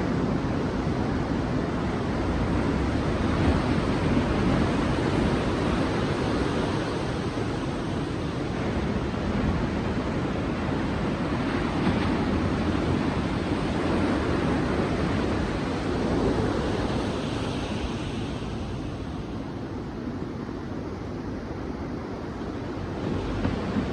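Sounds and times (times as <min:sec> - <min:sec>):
ocean waves breaking on beach: 0:00.0 - 0:23.9.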